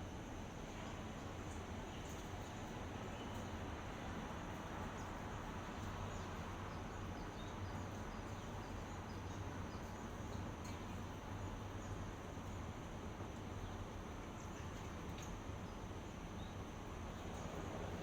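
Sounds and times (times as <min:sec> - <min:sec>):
outdoor ambient hiss: 0:00.0 - 0:18.0.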